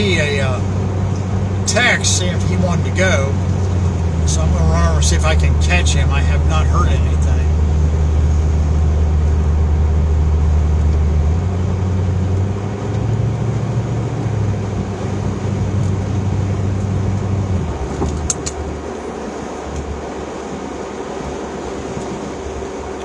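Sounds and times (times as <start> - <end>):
car engine and road hum: 0.0 - 23.0.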